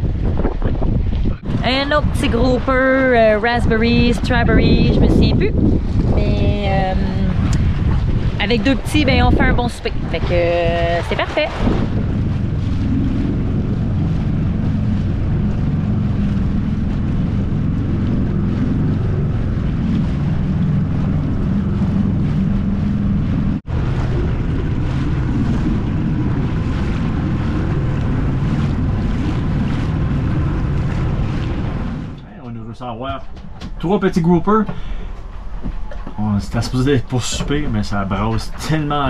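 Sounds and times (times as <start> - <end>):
boat engine rumble: 0.0 - 39.0
wind buffeting microphone: 0.0 - 39.0.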